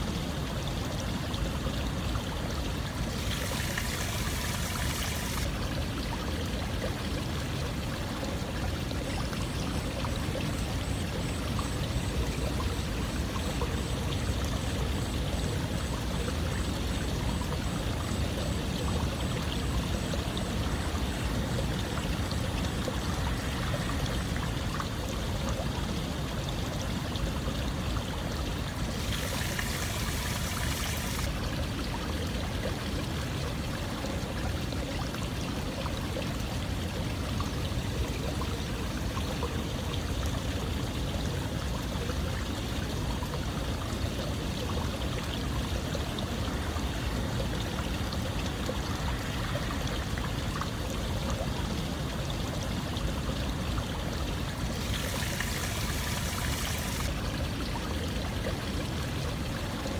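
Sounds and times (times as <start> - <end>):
running water rushing: 0.0 - 41.0, 41.6 - 59.9.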